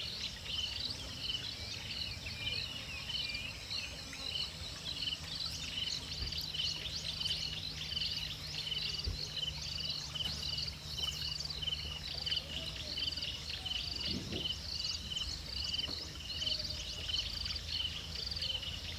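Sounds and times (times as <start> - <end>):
insects or frogs trilling: 0.0 - 18.9
low steady hum: 0.0 - 18.9.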